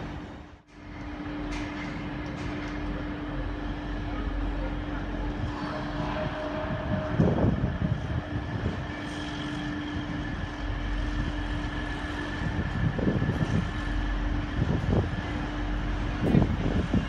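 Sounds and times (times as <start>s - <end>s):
train engine hum: 0.0s - 17.0s.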